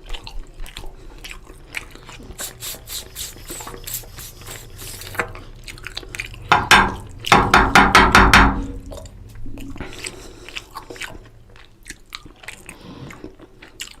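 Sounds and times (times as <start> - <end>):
chewing and crunching: 0.0 - 7.4, 8.7 - 14.0.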